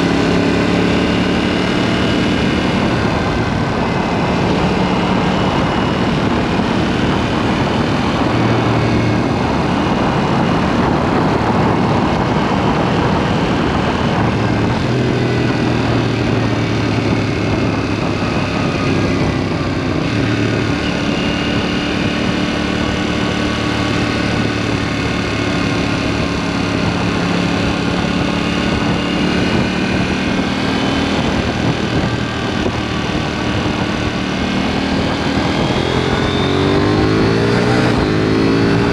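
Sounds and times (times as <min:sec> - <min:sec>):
motorcycle engine cruising: 0:00.0 - 0:38.9
wind noise: 0:00.0 - 0:38.9.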